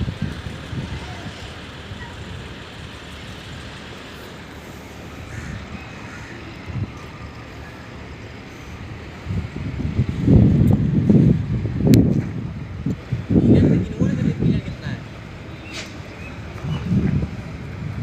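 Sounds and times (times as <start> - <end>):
rumble of engines: 0.0 - 18.0.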